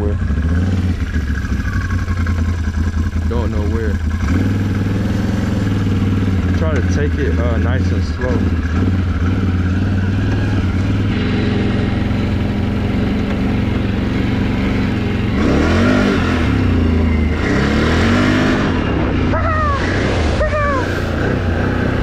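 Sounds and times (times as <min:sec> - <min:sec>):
atv engine running and revving: 0:00.0 - 0:22.0.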